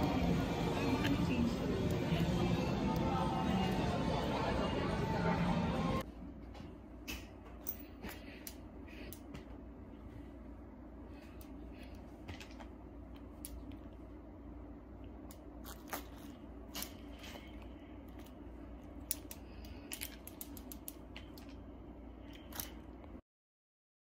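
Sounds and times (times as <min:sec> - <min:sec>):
low room hum: 0:00.0 - 0:23.2.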